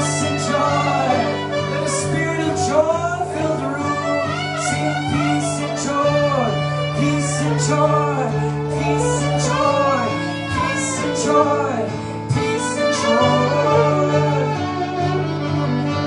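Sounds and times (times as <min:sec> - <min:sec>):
live worship music with guitar: 0:00.0 - 0:16.0.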